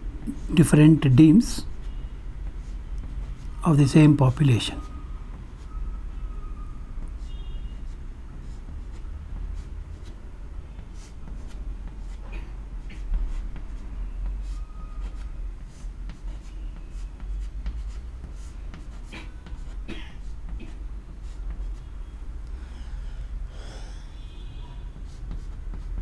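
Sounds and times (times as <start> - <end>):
chalk tapping and scratching: 0.1 - 5.8, 7.0 - 22.2, 24.8 - 26.0.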